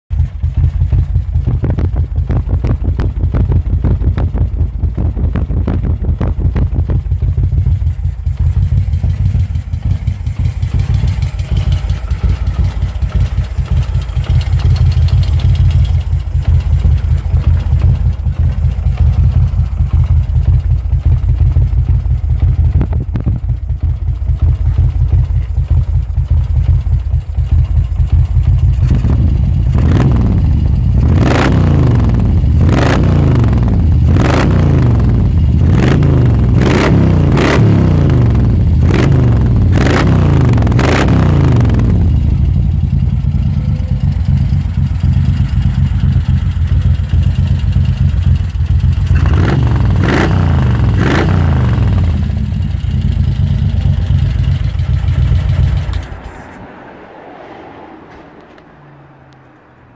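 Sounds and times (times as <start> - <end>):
motorcycle engine idling: 0.1 - 56.5.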